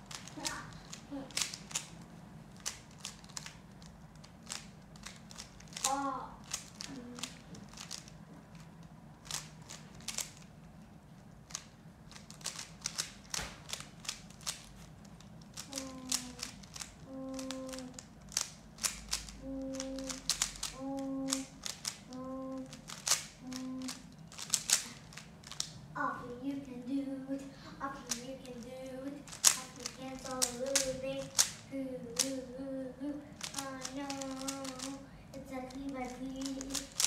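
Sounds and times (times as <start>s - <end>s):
puzzle cube clicking: 0.0s - 10.5s, 11.4s - 25.8s, 28.0s - 31.6s, 32.2s - 32.4s, 33.4s - 37.0s.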